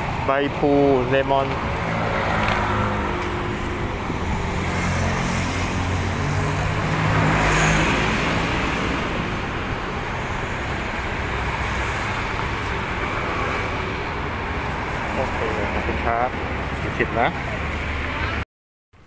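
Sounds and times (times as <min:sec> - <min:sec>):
steady road noise: 0:00.0 - 0:18.4
vehicle engine hum: 0:00.0 - 0:18.4.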